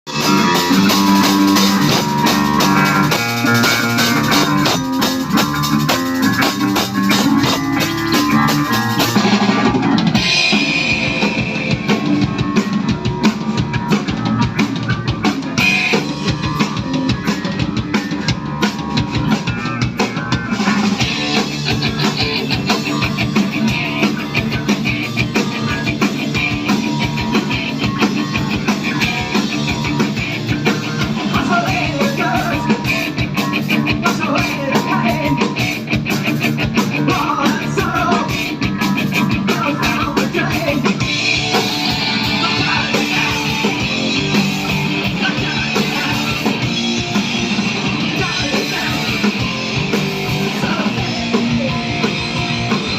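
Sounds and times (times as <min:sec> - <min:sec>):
rock band playing loudly: 0:00.0 - 0:52.9.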